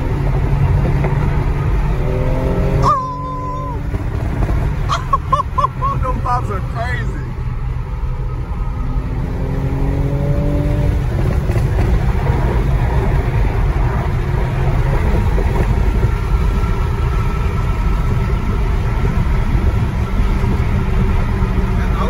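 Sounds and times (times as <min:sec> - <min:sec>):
car engine pulling hard: 0:00.0 - 0:22.0
road rumble: 0:00.0 - 0:22.0.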